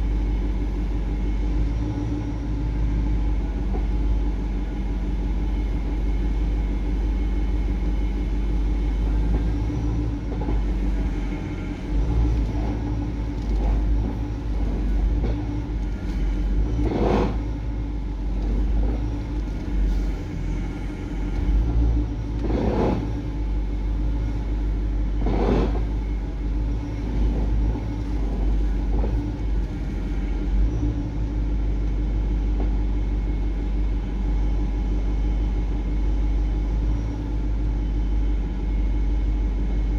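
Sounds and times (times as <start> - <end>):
car engine idling: 4.2 - 37.9.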